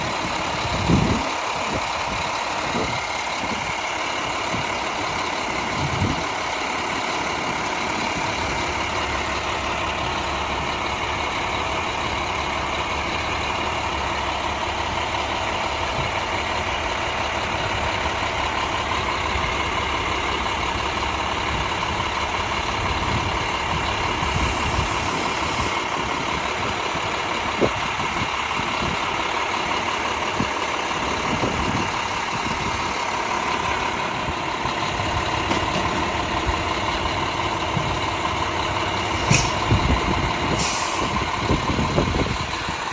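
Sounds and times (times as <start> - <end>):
heavy truck engines idling: 0.0 - 42.9.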